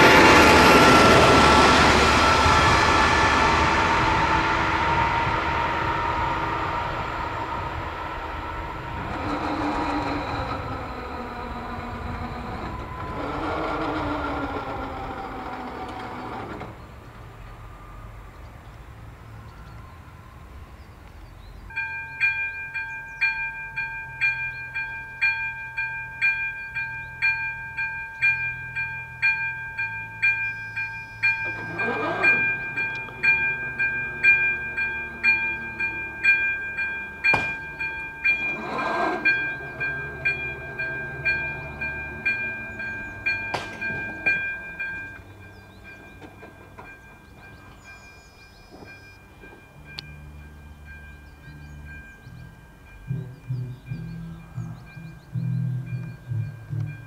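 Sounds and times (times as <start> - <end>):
crossing warning bell ringing: 0.0 - 16.7, 21.6 - 57.0
train rumbling and squealing: 0.0 - 57.0.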